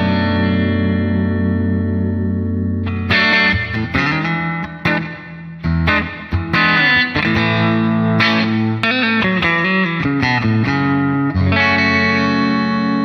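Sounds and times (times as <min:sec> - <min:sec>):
clean electric guitar: 0:00.0 - 0:13.0.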